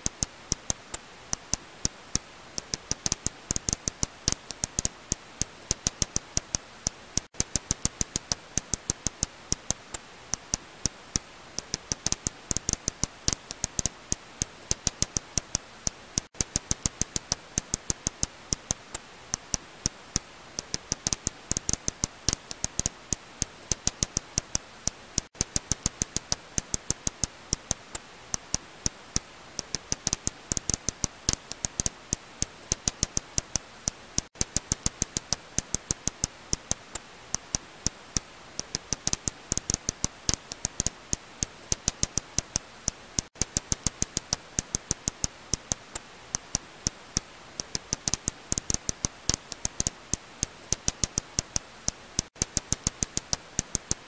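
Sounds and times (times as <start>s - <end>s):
bat echolocation clicks: 0.0s - 54.0s
faint steady hiss: 0.0s - 54.0s.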